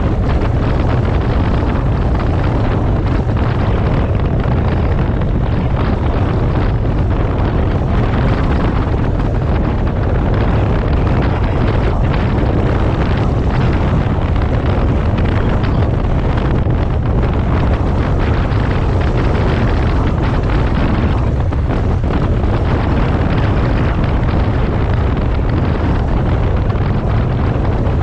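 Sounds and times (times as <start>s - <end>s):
motorcycle engine running: 0.0s - 28.0s
wind rush on microphone: 0.0s - 28.0s.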